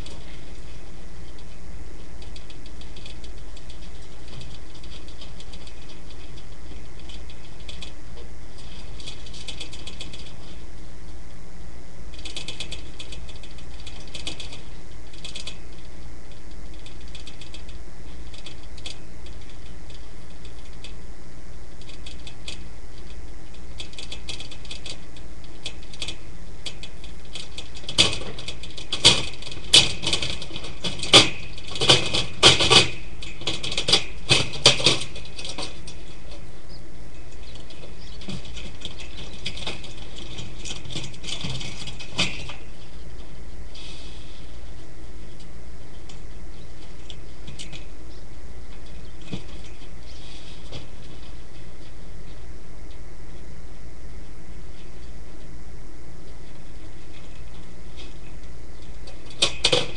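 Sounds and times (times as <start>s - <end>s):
irregular clicks and rustles: 0.0s - 59.9s
steady hiss: 0.0s - 59.9s.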